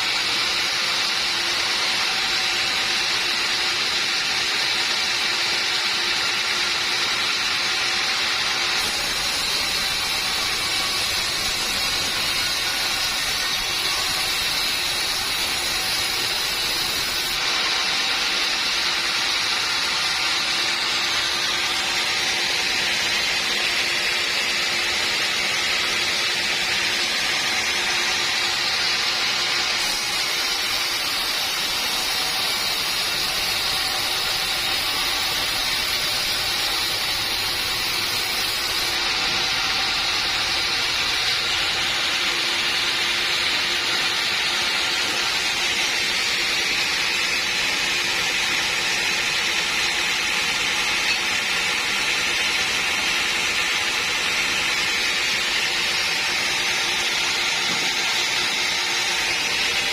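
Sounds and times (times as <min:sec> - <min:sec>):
saw cutting wood: 0:00.0 - 0:59.9.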